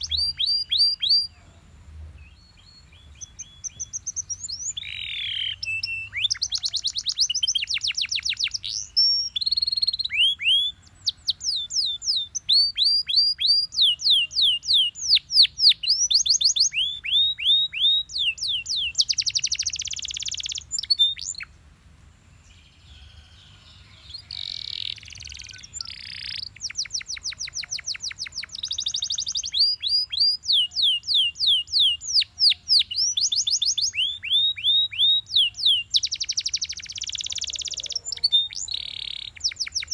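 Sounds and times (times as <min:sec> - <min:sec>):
canary singing: 0:00.0 - 0:01.5, 0:02.3 - 0:21.5, 0:22.6 - 0:39.9.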